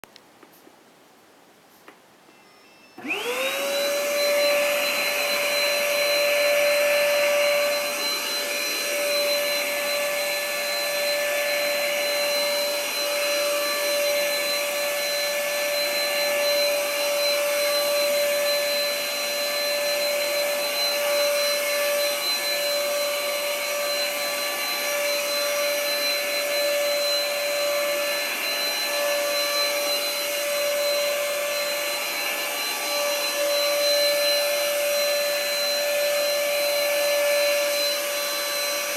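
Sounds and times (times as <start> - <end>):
vacuum cleaner motor whine: 2.3 - 38.9.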